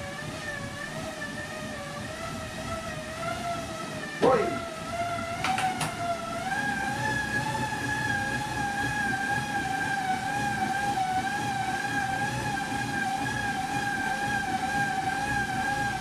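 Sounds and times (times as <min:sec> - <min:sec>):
bike tyres whining on rollers: 0:00.0 - 0:16.0.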